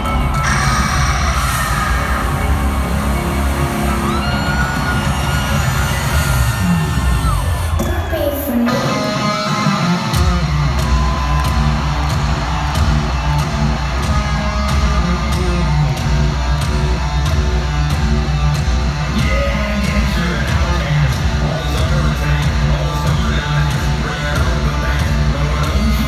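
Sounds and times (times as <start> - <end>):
electric guitar riff: 0.0 - 26.0
heavy bass: 0.0 - 26.0
rock band playing live: 0.0 - 26.0
steady drums: 0.0 - 26.0.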